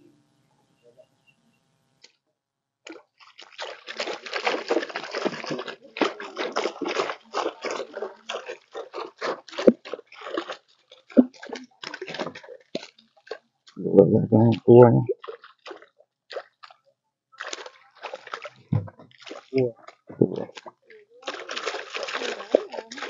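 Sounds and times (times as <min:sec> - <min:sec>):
water splashing and sloshing: 0:02.8 - 0:23.0.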